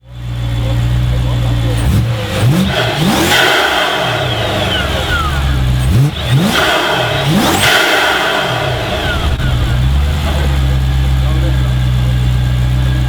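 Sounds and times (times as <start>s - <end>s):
car engine revving: 0.0s - 13.0s
supercharger whine: 0.0s - 13.0s.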